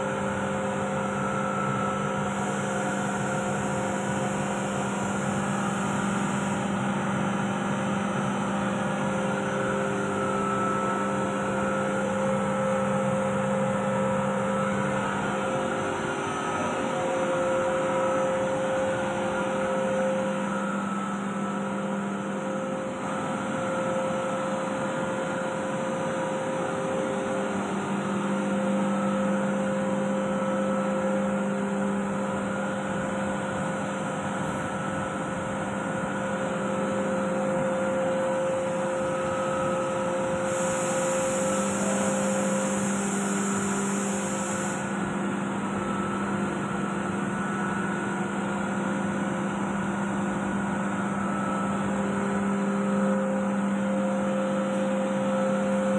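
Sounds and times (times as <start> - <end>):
air compressor humming: 0.0 - 55.9.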